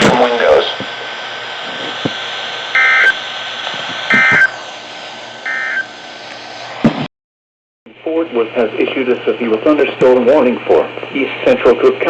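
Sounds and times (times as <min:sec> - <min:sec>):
radio hiss: 0:00.0 - 0:06.9, 0:07.9 - 0:12.0.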